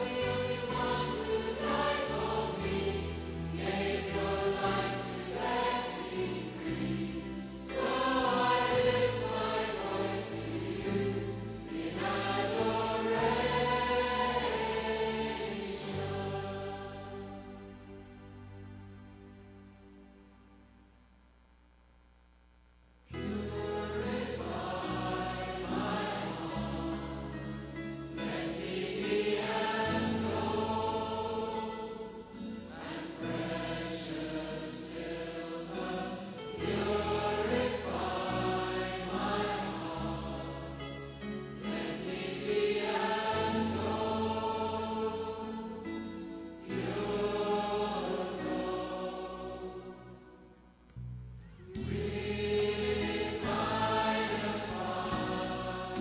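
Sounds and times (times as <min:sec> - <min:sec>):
choir singing: 0:00.0 - 0:19.1, 0:23.1 - 0:50.7, 0:51.6 - 0:56.0.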